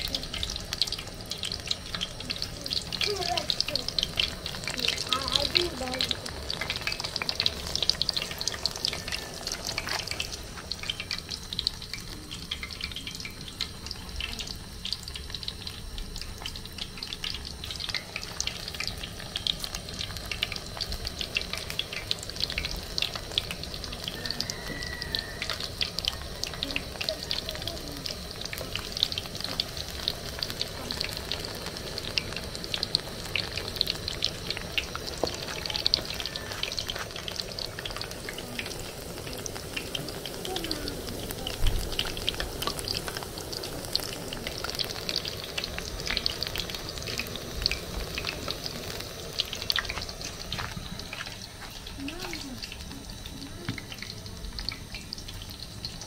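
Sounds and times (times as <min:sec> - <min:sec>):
deep-frying sizzle and crackles: 0:00.0 - 0:56.0.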